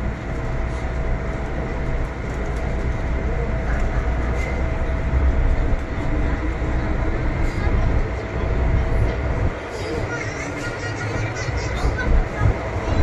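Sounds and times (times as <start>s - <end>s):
train rumbling from inside: 0.0s - 13.0s.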